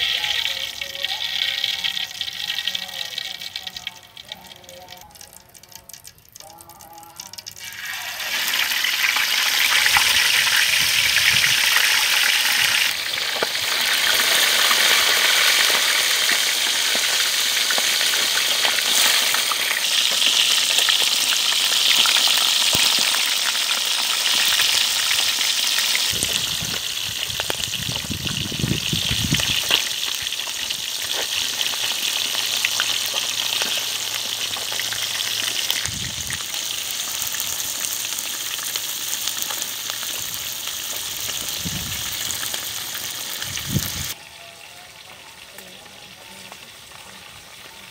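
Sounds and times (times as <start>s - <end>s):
fish sizzling in hot oil: 0.0s - 47.9s.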